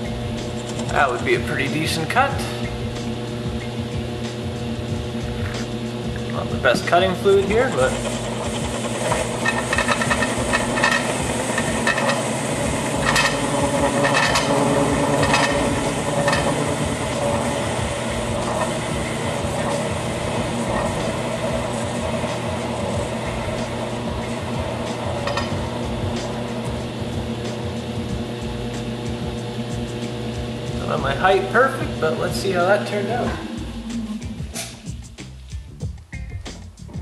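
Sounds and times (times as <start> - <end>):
lathe spindle hum: 0.0 - 35.2
scratchy crackling metal cutting: 0.0 - 35.2.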